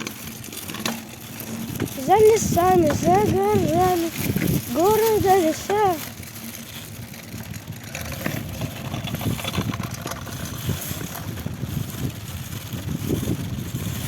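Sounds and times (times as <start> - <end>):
wheels rolling over pavement: 0.0 - 14.0
wind buffeting microphone: 0.0 - 14.0.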